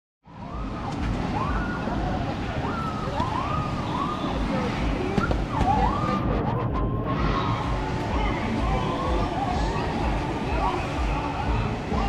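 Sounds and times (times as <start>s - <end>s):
crowd calling and shouting: 0.3s - 12.0s
rushing water: 0.3s - 12.0s.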